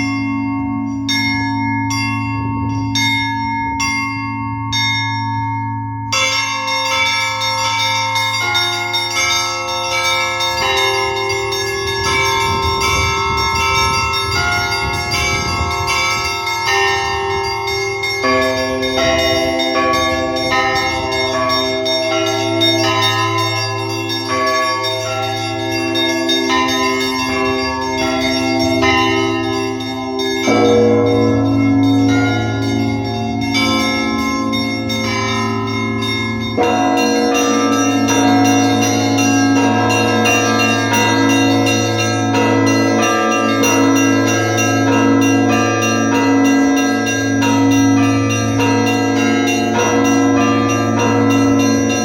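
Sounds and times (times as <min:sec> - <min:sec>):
larger bells ringing: 0:00.0 - 0:52.0
small bells struck rapidly: 0:00.0 - 0:52.0.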